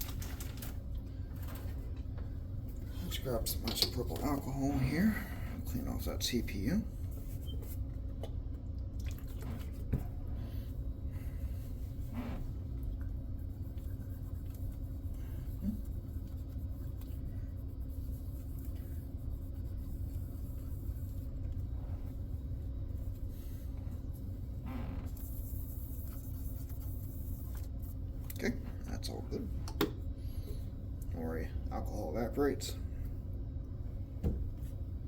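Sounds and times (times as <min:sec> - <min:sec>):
low rumble and hum: 0:00.0 - 0:35.0.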